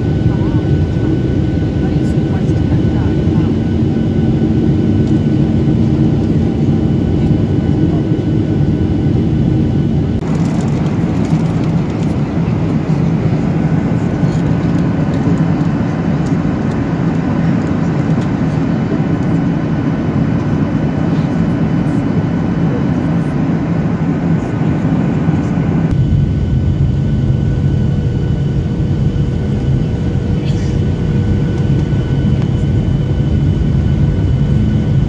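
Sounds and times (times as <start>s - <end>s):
jet cabin engine and airflow rush: 0.0s - 35.0s
low hum: 0.0s - 35.0s.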